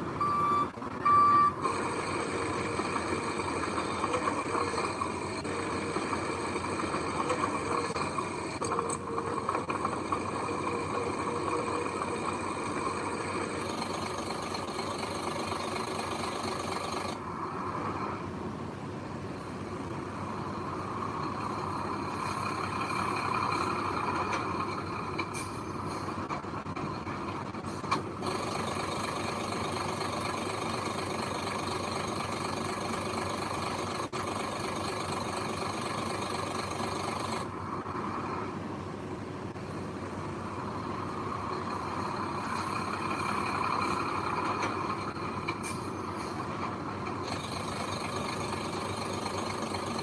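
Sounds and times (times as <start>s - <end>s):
diesel earthmoving machinery running: 0.0s - 50.0s.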